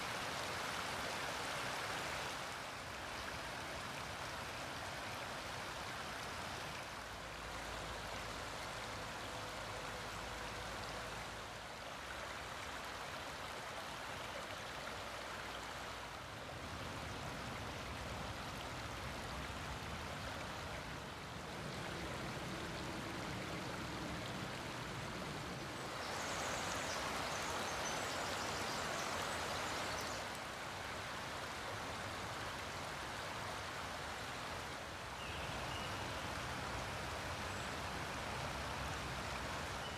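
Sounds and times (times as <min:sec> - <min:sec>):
creek running over stones: 0:00.0 - 0:39.9.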